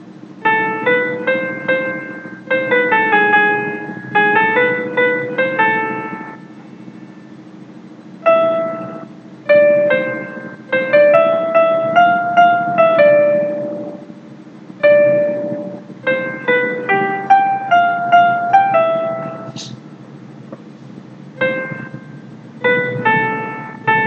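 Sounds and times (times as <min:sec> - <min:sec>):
synthesized piano melody: 0:00.0 - 0:20.4, 0:21.0 - 0:24.0
steady low hum: 0:00.0 - 0:24.0.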